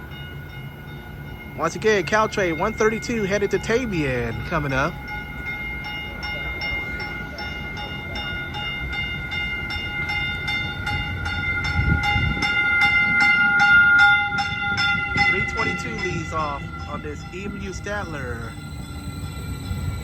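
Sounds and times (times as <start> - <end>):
train bell ringing: 0.0 - 20.0
train rumble: 0.0 - 20.0.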